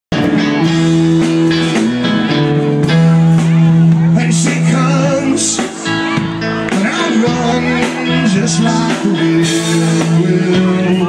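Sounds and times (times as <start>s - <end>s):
live band with guitar: 0.1s - 11.0s.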